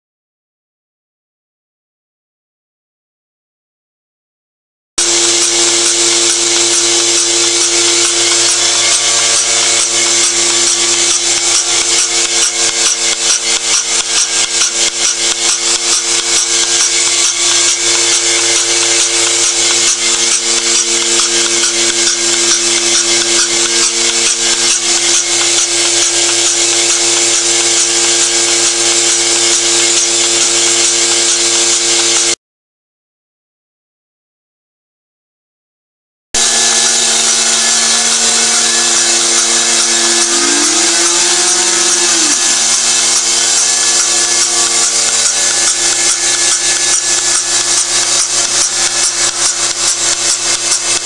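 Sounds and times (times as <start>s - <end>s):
milking machine running: 5.0s - 32.4s, 36.4s - 51.0s.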